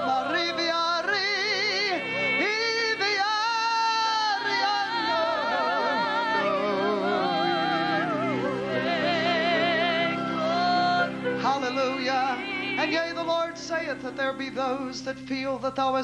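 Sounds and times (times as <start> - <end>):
congregation singing: 0.0 - 16.0.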